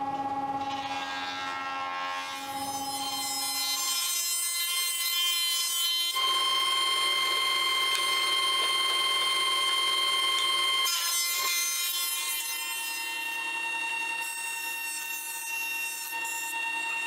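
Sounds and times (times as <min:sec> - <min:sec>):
jointer cutterhead whine: 0:00.0 - 0:17.0.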